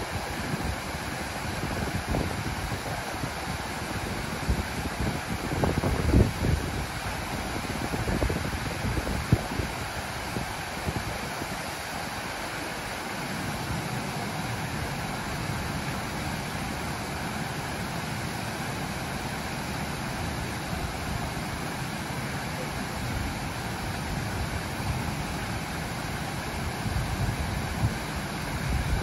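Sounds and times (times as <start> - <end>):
water rushing over waterfall: 0.0 - 29.0.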